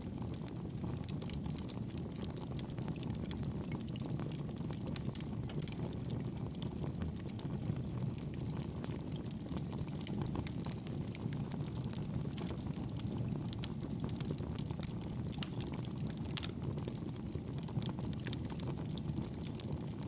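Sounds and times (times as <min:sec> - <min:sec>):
fire crackling and popping: 0:00.0 - 0:20.0
wood fire burning: 0:00.0 - 0:20.0.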